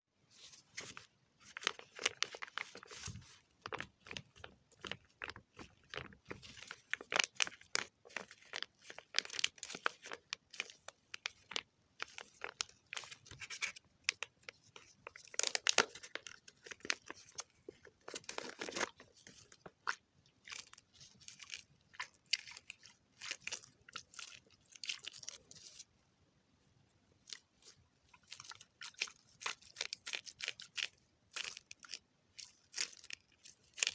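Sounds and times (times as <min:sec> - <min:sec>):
close-up crunching and crackling: 0:00.8 - 0:25.9, 0:27.2 - 0:33.9.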